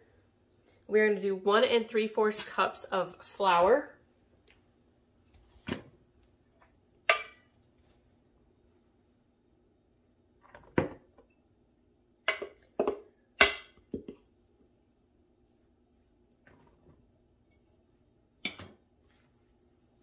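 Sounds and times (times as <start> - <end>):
faint steady hum: 0.0 - 2.1, 2.9 - 20.0.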